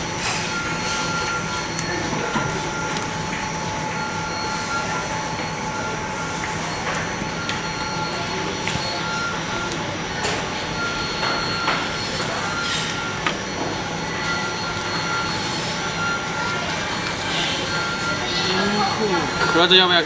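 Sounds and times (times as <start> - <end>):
machinery whining tones: 0.0 - 20.0
workshop machinery hum and hiss: 0.0 - 20.0.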